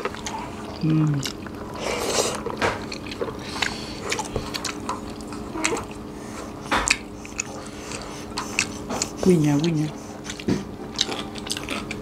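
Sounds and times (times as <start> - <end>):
chewing and mouth smacks: 0.0 - 6.0, 6.6 - 12.0.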